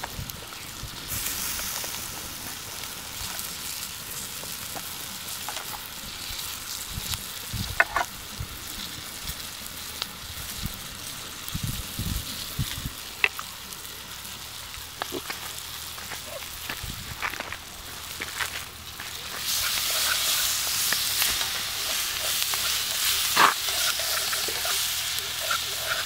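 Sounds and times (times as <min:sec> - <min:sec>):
vegetables sizzling in a wok: 0:00.0 - 0:26.0.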